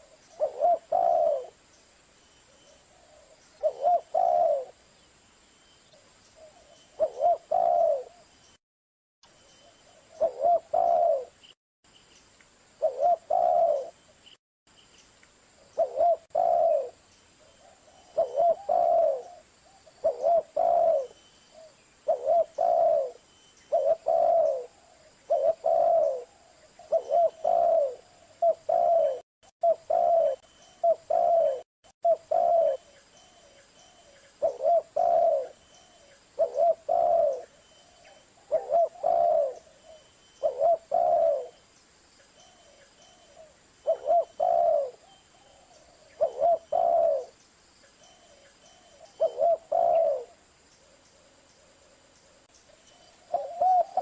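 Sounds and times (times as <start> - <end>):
dove cooing: 0.0 - 1.6, 2.9 - 4.8, 6.4 - 8.3, 9.8 - 11.4, 12.8 - 14.0, 15.8 - 41.6, 42.5 - 47.4, 48.2 - 52.5, 53.2 - 54.0.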